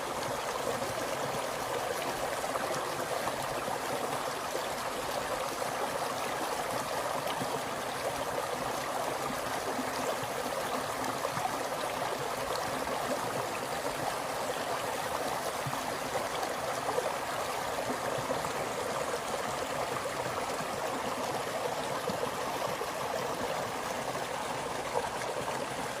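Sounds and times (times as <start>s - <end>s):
stream water rushing and gurgling: 0.0s - 26.0s.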